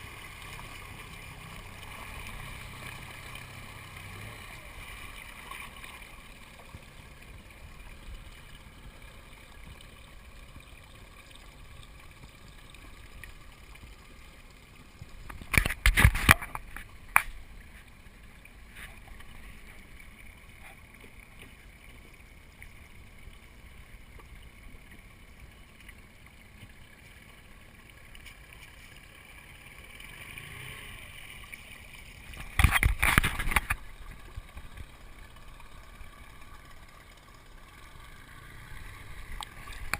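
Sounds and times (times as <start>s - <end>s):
water and boat noise: 0.0s - 39.9s.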